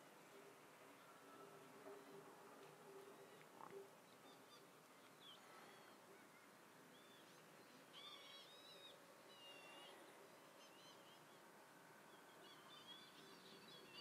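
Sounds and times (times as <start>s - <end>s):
faint bird chirping: 0.0s - 14.0s
low steady hiss: 0.0s - 14.0s.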